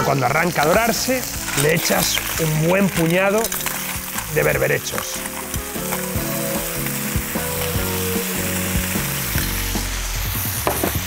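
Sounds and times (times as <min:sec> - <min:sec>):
shellfish sizzling in hot oil: 0:00.0 - 0:11.0.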